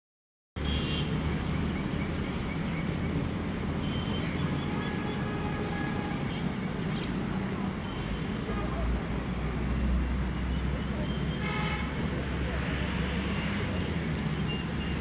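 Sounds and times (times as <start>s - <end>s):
road traffic rumble: 0.6s - 15.0s.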